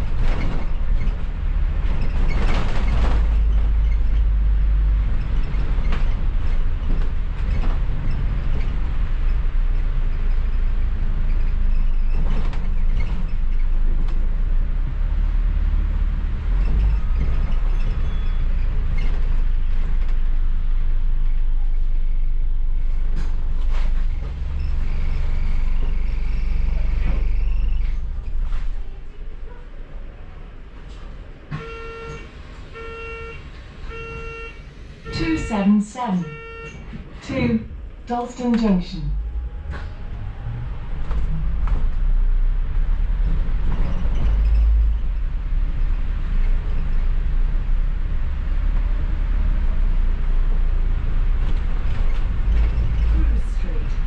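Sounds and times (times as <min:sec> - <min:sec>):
bus body knocks and rattles: 0:00.0 - 0:21.6, 0:22.4 - 0:29.8, 0:36.3 - 0:54.0
bus engine and road rumble: 0:00.0 - 0:54.0.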